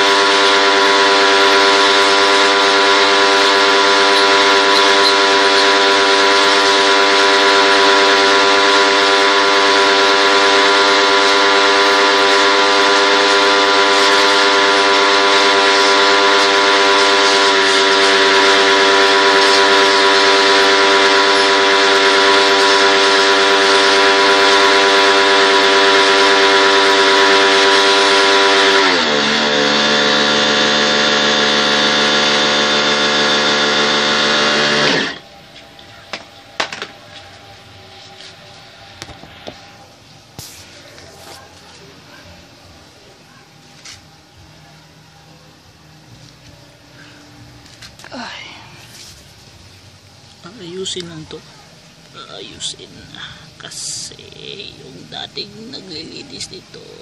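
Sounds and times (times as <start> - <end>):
electric motor humming: 0.0 - 57.0.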